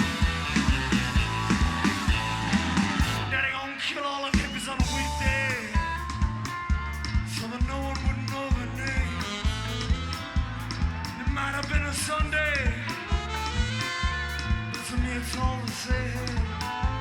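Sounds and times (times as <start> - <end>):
blues-rock band playing live: 0.0 - 3.4, 4.4 - 17.0
sliding electric guitar lead line: 0.0 - 3.6, 4.8 - 17.0.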